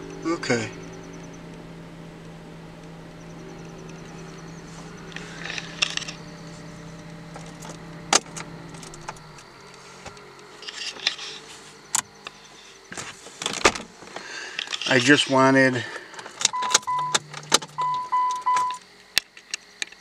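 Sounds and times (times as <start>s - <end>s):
steady low hum: 0.0s - 14.7s, 15.3s - 18.8s.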